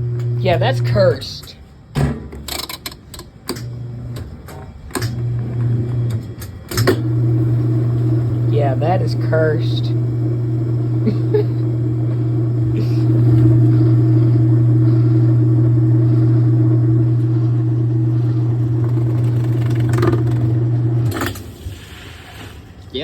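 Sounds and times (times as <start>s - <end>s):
washing machine motor hum: 0.0s - 23.0s.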